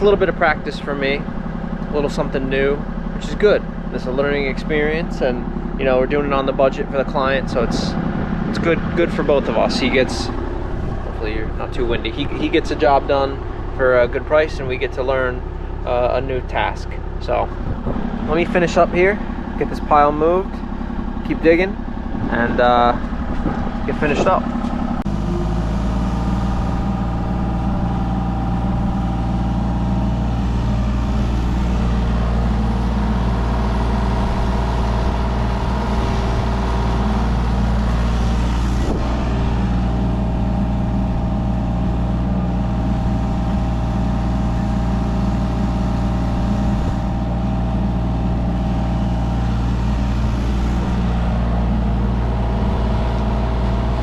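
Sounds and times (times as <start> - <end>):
diesel engine running: 0.0 - 54.0
excavator digging dirt: 0.0 - 54.0
hydraulic whining: 0.0 - 54.0.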